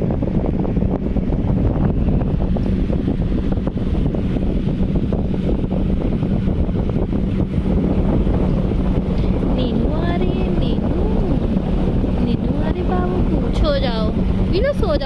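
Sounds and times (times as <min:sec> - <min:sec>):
fan blowing air: 0:00.0 - 0:15.0
motor hum: 0:00.0 - 0:15.0
wind buffeting microphone: 0:00.0 - 0:15.0.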